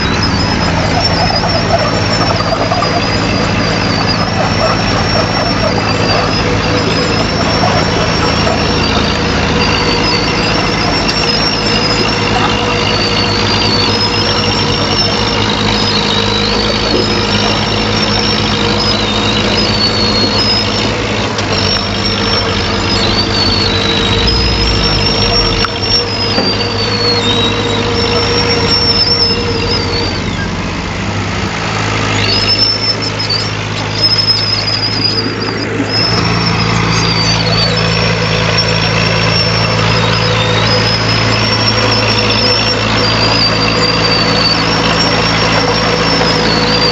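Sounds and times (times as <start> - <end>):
heavy diesel engine running: 0.0 - 46.9
high-pitched squeal: 0.0 - 46.9.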